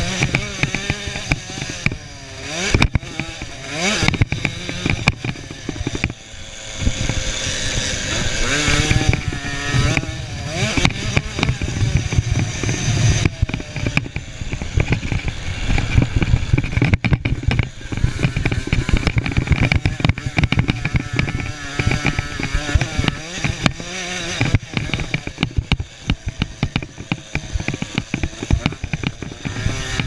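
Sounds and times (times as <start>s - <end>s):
engine revving: 0.0s - 30.0s
small motocross bikes running: 0.0s - 30.0s.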